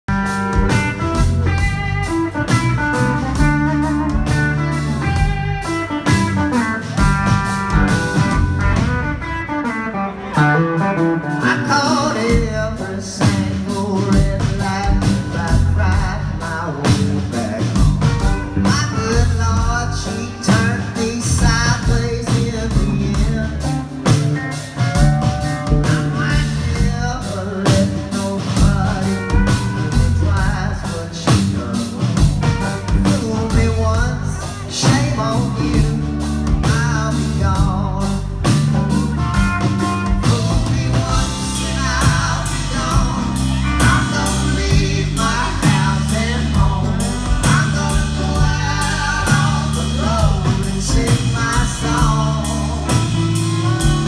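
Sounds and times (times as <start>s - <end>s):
bass guitar: 0.0s - 54.0s
drum kit: 0.0s - 54.0s
electric guitars: 0.1s - 54.0s
person singing: 8.8s - 38.9s, 39.6s - 54.0s.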